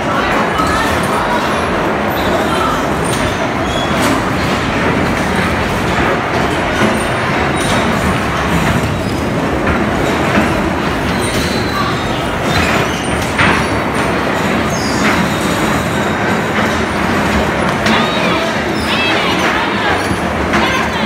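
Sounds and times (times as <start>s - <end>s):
bumper car motors and wheels rumbling: 0.0s - 21.0s
sharp knocks and clacks: 2.9s - 11.7s, 12.3s - 21.0s.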